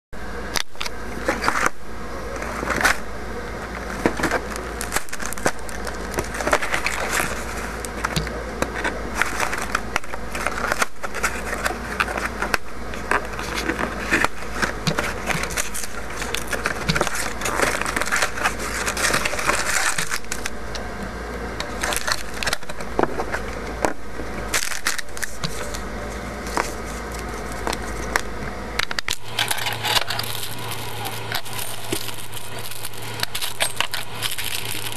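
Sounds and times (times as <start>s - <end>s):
steady low hum: 0.2s - 34.9s
cardboard and plastic bags rustling: 3.7s - 20.8s, 21.6s - 34.9s.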